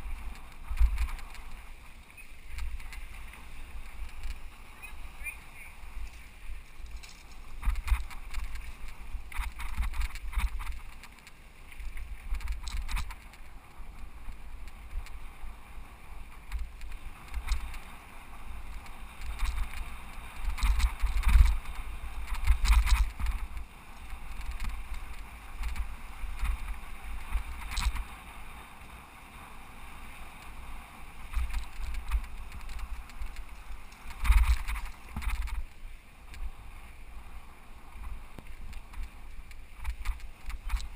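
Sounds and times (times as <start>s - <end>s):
bike rattling and clicking: 0.0s - 15.3s, 16.3s - 28.3s, 30.2s - 36.5s, 38.0s - 40.9s
wind buffeting microphone: 0.0s - 28.6s, 30.2s - 40.9s.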